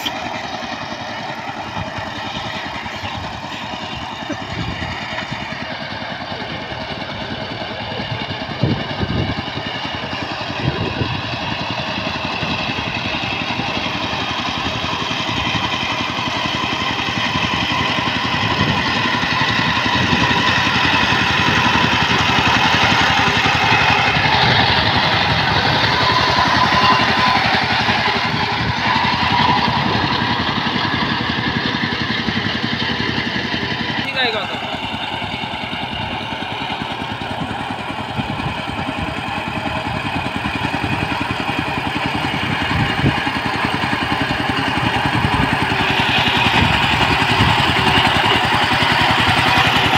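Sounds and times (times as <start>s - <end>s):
diesel tiller engine running: 0.0s - 49.9s.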